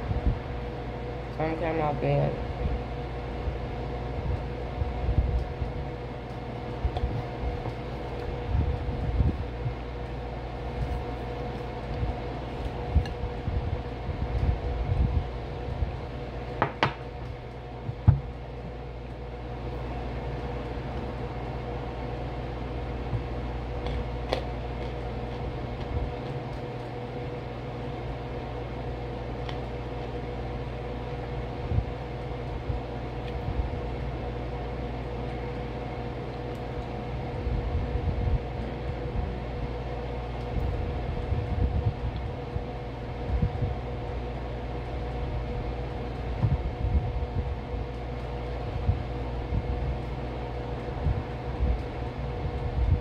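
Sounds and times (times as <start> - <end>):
machine hum with tones: 0.0 - 53.0.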